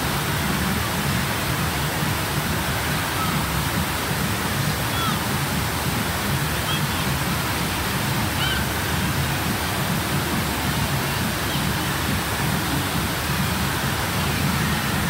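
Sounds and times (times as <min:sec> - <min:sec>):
water rushing over ramp: 0:00.0 - 0:15.0.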